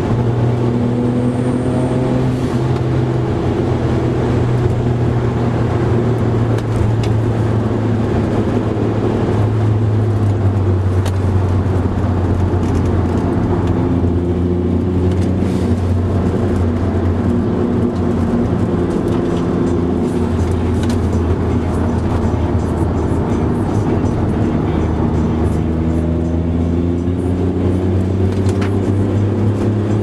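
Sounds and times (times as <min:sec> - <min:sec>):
car engine running hard: 0:00.0 - 0:30.0.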